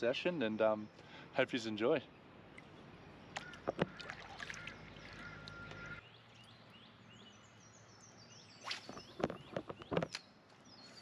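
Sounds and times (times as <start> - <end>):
background noise: 0.0 - 11.0
birds chirping: 0.0 - 11.0.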